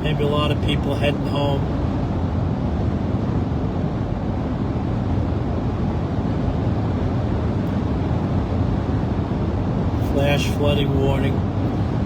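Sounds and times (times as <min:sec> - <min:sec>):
road and tyre noise in car: 0:00.0 - 0:12.0.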